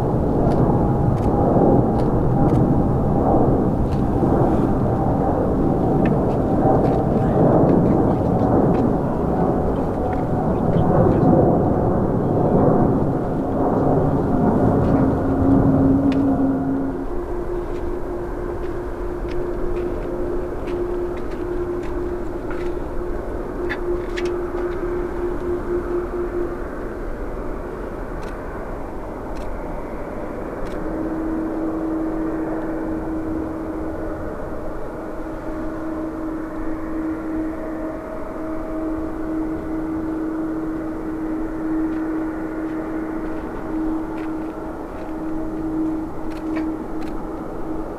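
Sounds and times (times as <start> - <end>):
droning tone: 0.0 - 47.9
jet engines rumbling with whine: 0.0 - 47.9
low hum: 0.0 - 47.9.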